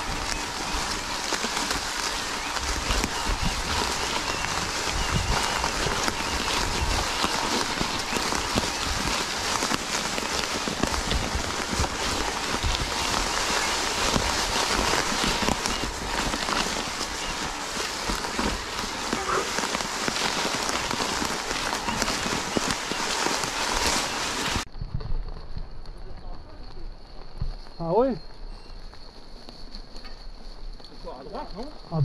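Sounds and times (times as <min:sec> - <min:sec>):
low bumps on rough track: 0:00.0 - 0:28.3
bike tyres rolling over wet leaves: 0:00.0 - 0:32.0.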